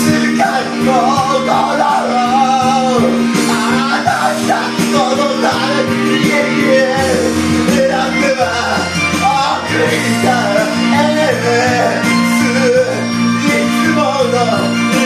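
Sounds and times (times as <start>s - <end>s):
instrumental backing track: 0.0s - 15.0s
man singing into microphone: 0.0s - 15.0s.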